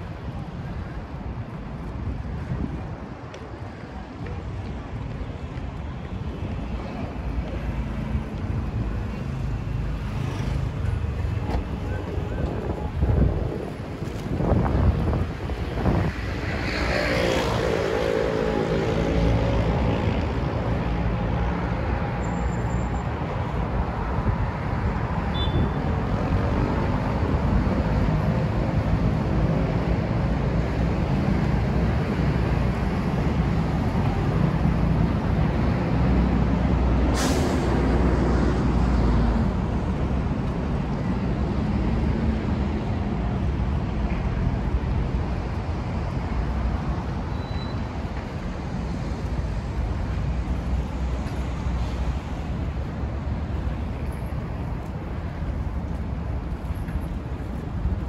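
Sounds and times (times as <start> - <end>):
busy road traffic: 0.0 - 58.0.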